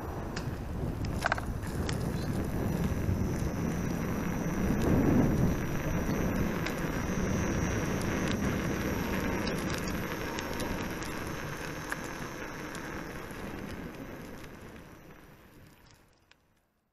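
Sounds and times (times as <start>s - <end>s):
wind: 0.0s - 16.9s
tyre rolling on asphalt: 0.4s - 16.2s
small clicks: 0.4s - 16.7s
faint high steady tone: 1.2s - 16.1s.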